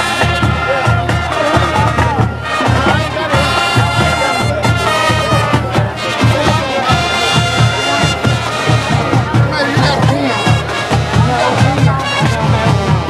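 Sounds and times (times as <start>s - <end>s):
brass horns: 0.0s - 13.0s
steady drum beat: 0.0s - 13.0s.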